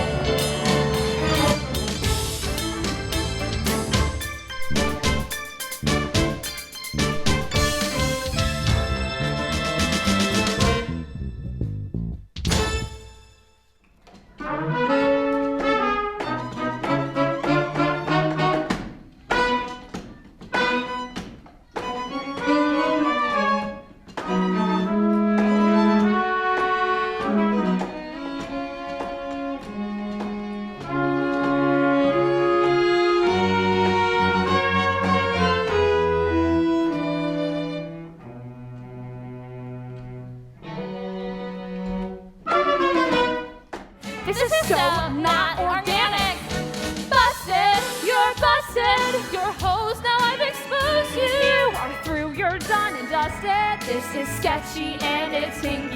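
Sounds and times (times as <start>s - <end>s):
pit orchestra playing: 0.0s - 13.5s, 14.4s - 19.8s, 22.1s - 55.9s.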